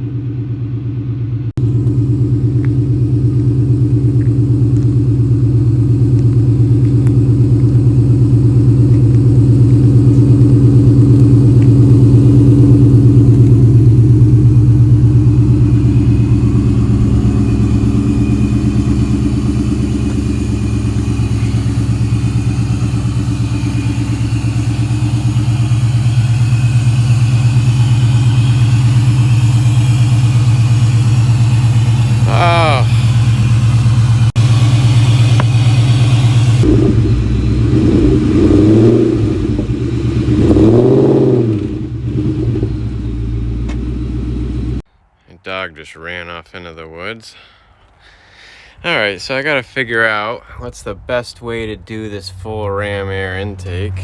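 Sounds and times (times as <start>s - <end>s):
car engine running: 0.0s - 44.9s, 48.8s - 54.0s.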